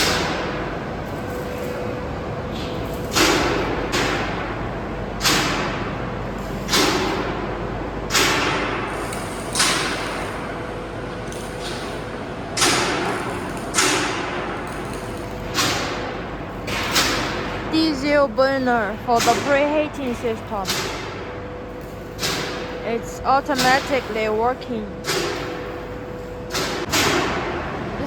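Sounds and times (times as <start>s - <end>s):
furnace plant steady noise: 0.0s - 28.0s.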